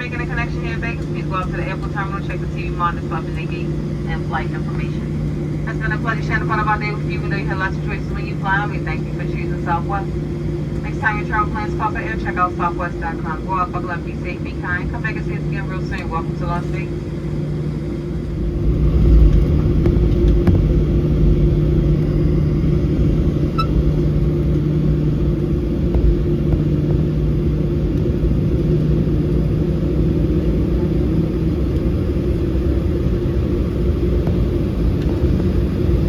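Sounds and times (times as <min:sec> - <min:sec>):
constant low hum: 0:00.0 - 0:36.0
jet engines rumbling: 0:00.0 - 0:36.0.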